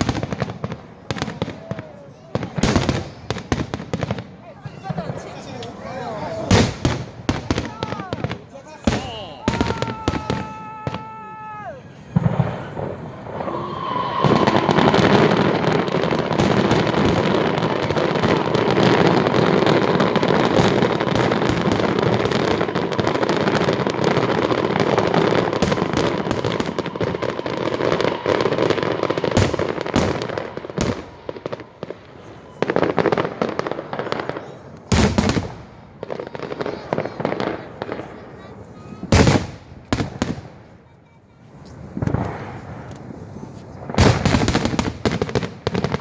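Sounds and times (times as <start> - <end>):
fireworks crackling and banging: 0.0 - 46.0.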